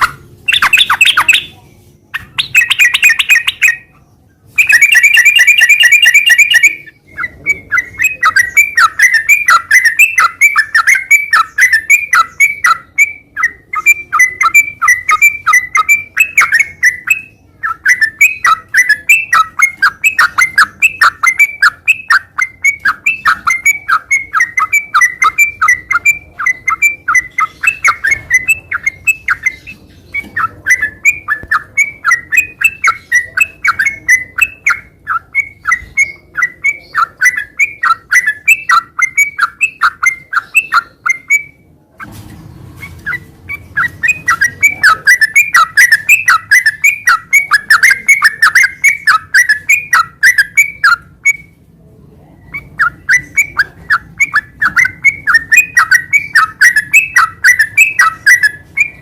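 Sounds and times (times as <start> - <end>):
bird chattering song: 0.0 - 51.6, 52.2 - 59.0.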